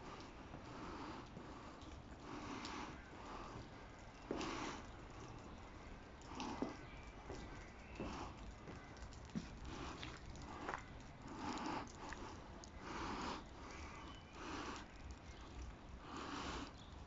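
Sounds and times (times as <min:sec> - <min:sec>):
soft breathing: 0:00.0 - 0:17.0.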